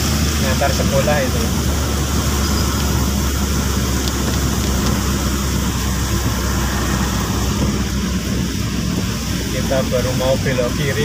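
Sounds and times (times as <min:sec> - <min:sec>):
car engine and road drone: 0:00.0 - 0:11.0
rain hissing: 0:00.0 - 0:11.0
wet tyre spray: 0:00.0 - 0:11.0.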